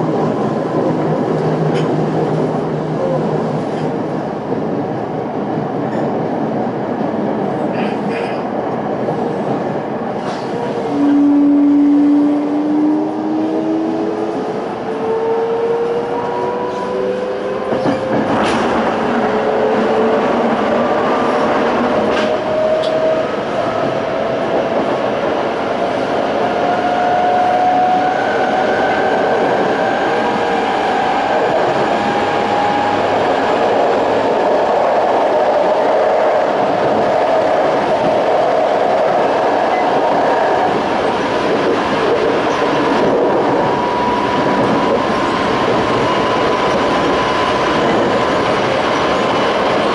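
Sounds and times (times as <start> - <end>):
wheel and rail rumble: 0.0 - 49.9.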